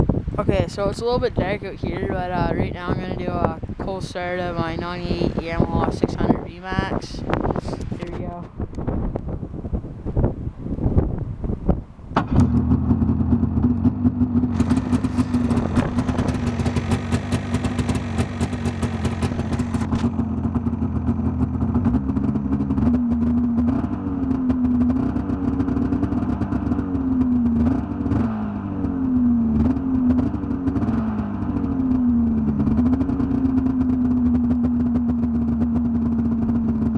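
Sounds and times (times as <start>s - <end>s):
snowmobile engine idling and revving: 0.0s - 36.9s.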